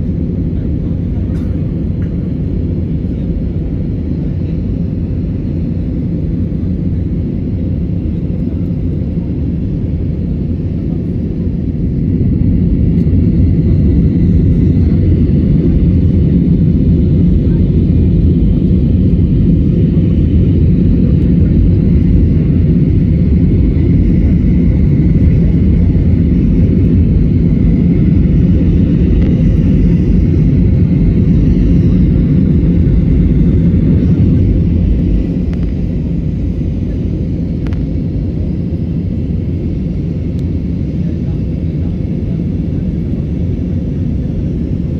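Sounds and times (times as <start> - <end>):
airplane engines rumbling in cabin: 0.0 - 44.9.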